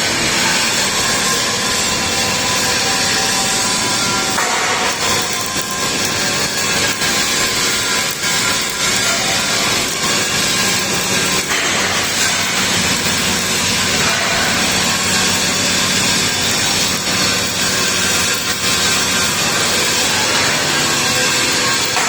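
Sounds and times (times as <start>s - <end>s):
welding arc crackling: 0.0s - 22.0s.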